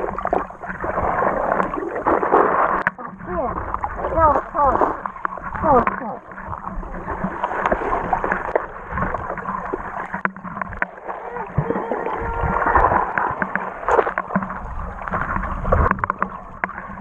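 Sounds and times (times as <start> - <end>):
muffled underwater gurgling: 0.0 - 17.0.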